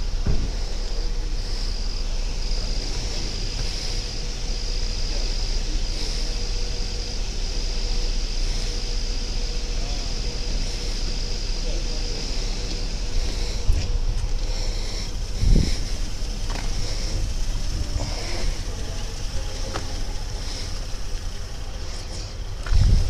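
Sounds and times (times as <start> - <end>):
low rumble and hiss of outdoors: 0.0 - 23.0.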